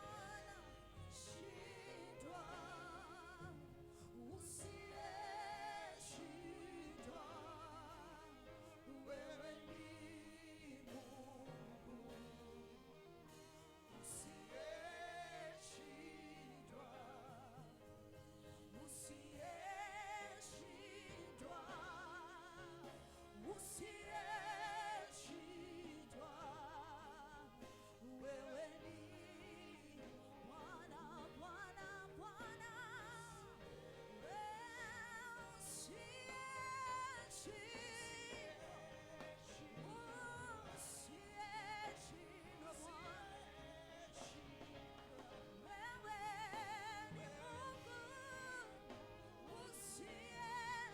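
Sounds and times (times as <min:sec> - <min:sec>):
person singing with vibrato: 0:00.0 - 0:50.9
sustained instrumental backing: 0:00.0 - 0:50.9.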